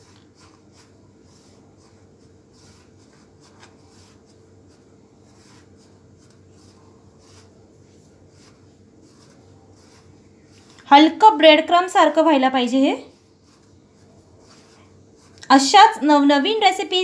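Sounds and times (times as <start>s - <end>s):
fingers rubbing flour on steel plate: 0.0s - 16.6s.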